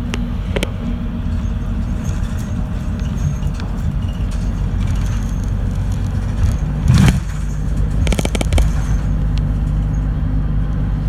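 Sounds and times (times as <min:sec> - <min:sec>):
bus engine and road rumble: 0:00.0 - 0:11.0
rattling clicks: 0:00.1 - 0:10.1.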